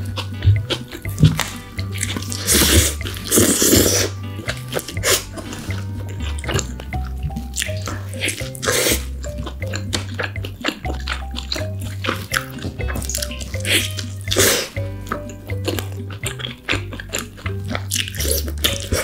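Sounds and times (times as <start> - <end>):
background music with bass line: 0.0 - 19.0
wet chewing and smacking: 0.0 - 19.0.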